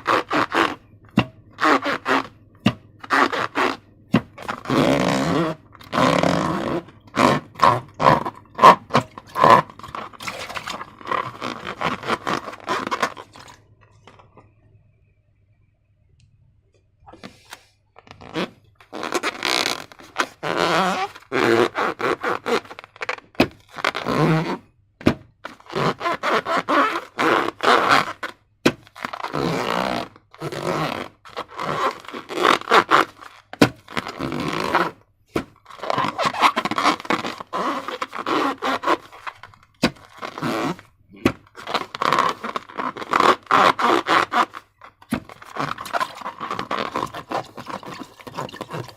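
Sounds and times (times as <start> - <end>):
slime scraping and squelching: 0.0 - 14.2, 17.1 - 24.6, 25.4 - 48.9.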